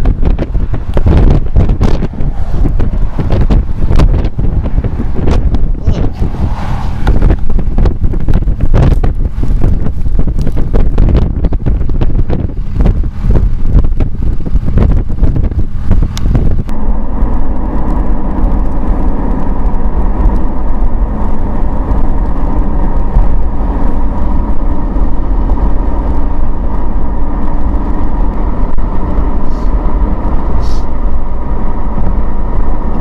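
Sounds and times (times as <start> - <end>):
car road and engine noise: 0.0 - 33.0
wind buffeting microphone: 0.0 - 33.0.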